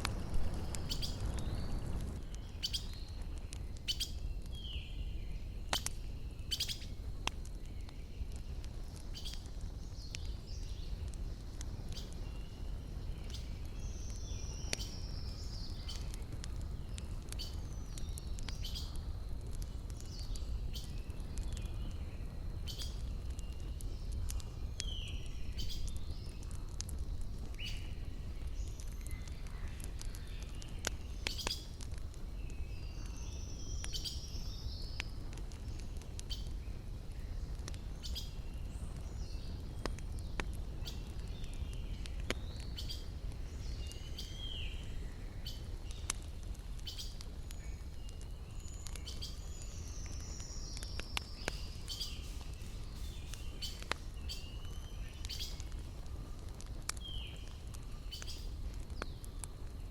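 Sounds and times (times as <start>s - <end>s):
campfire crackling: 0.0s - 59.9s
songbirds chirping: 0.1s - 59.9s.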